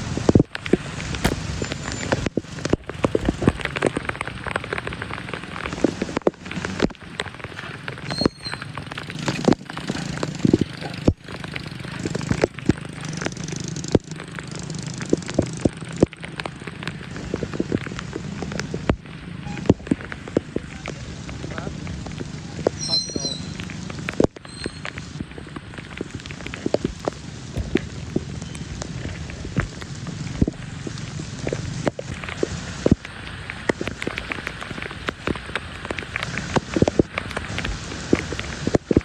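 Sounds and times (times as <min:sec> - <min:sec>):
sharp crackles: 0:00.0 - 0:39.0
floodwater splashing at a drain: 0:00.1 - 0:39.0.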